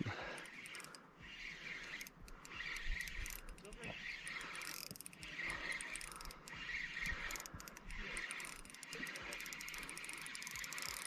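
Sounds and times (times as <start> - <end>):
fishing reel ratchet clicking: 0.1 - 11.0.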